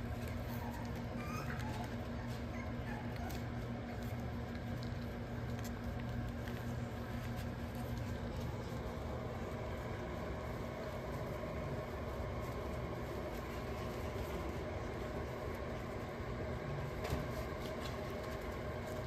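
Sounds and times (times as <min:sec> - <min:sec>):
faint clicks and rustles: 0:00.0 - 0:19.0
space heater fan whirring: 0:00.0 - 0:19.0.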